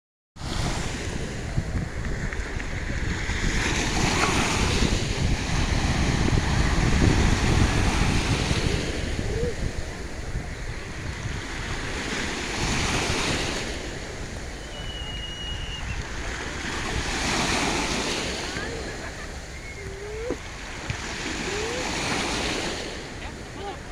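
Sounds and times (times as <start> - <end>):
sea waves washing onto shore: 0.4 - 23.9.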